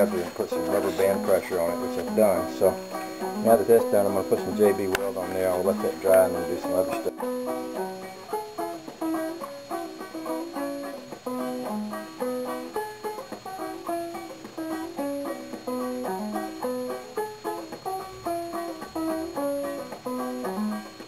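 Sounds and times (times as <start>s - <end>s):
plucked-string instrumental tune: 0.0s - 21.0s.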